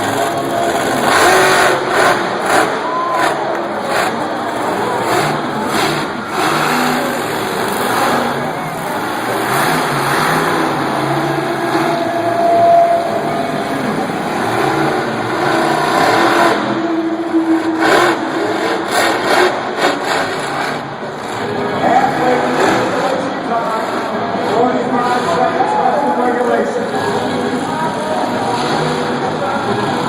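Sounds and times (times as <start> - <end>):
truck engine revving: 0.0 - 25.6, 26.4 - 30.0.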